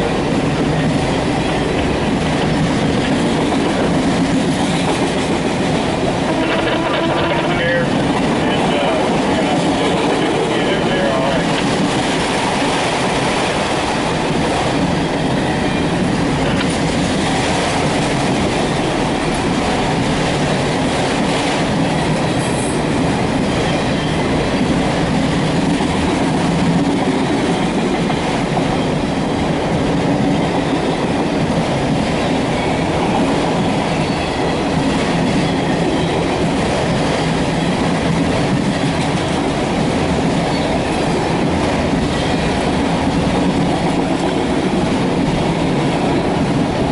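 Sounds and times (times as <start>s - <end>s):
rail joint clickety-clack: 0.0s - 46.9s.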